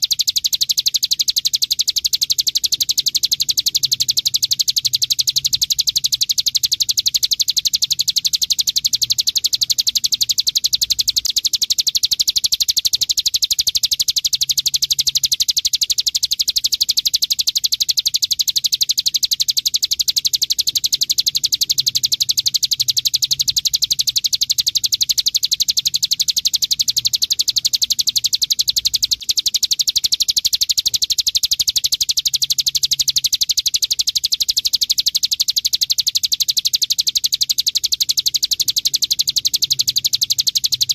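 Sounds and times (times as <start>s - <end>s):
bird rattling high chirps: 0.0s - 40.9s.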